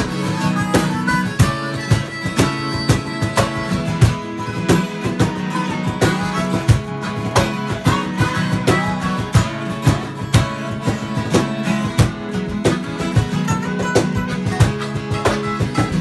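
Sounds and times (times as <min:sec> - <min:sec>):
band playing guitar-led music: 0:00.0 - 0:16.0.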